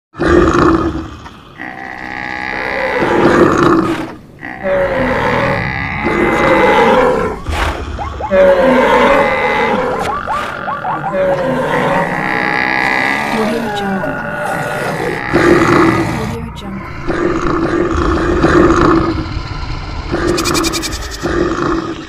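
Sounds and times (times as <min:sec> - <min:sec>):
animals roaring and grunting: 0:00.2 - 0:22.0.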